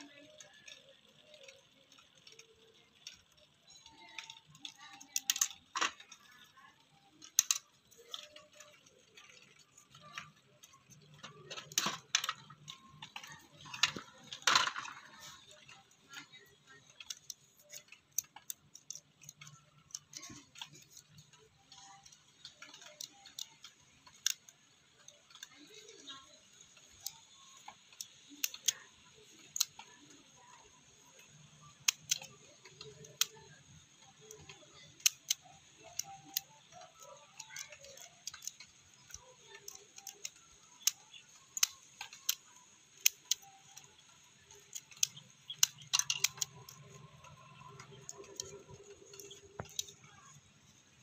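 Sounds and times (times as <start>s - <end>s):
small plastic and metal clicks and knocks: 0.0s - 51.0s.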